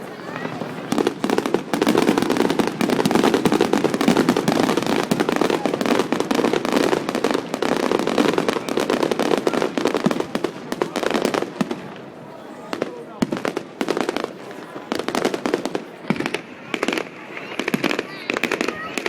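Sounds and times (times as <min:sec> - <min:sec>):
fireworks cracking and banging: 0:00.0 - 0:19.0.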